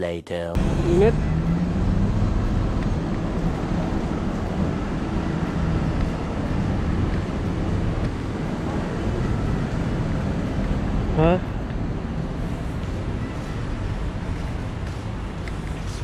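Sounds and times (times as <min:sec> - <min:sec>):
vehicle rumbling: 0:00.5 - 0:16.0.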